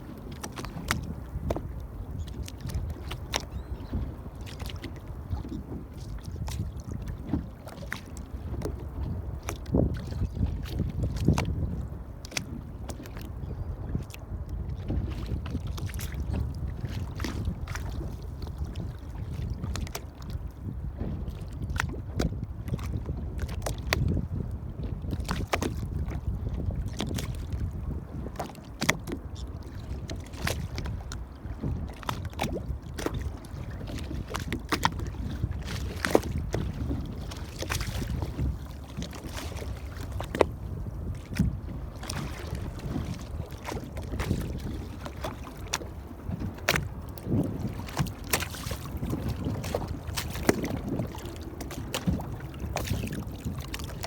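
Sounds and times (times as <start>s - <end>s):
water slapping against boat hull: 0.0s - 54.0s
wind rumble on microphone: 0.0s - 54.0s.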